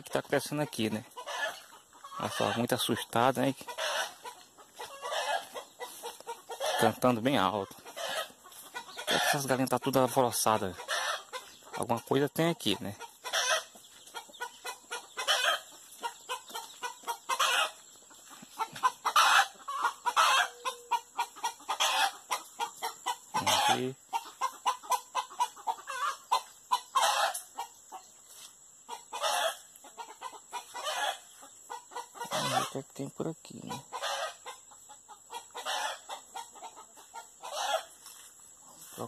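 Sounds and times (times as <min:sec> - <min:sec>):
chickens alarm cackling: 0:00.0 - 0:39.0
chickens clucking rapidly: 0:00.0 - 0:39.0.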